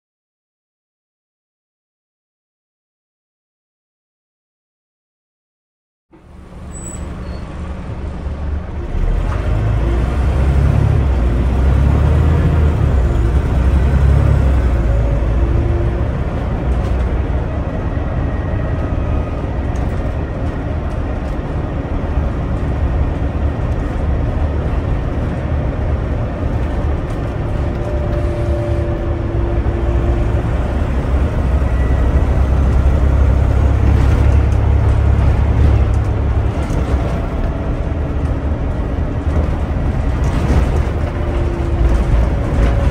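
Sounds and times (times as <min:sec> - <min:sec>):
bus engine and road noise: 0:06.1 - 0:42.9.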